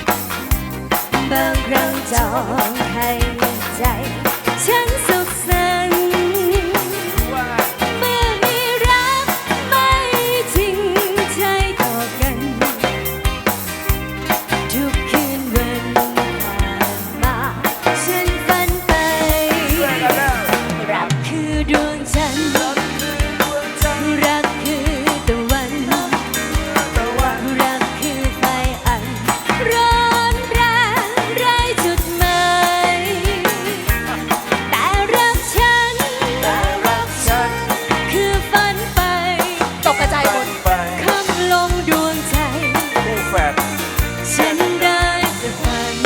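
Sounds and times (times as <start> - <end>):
live band playing pop: 0.0 - 46.0.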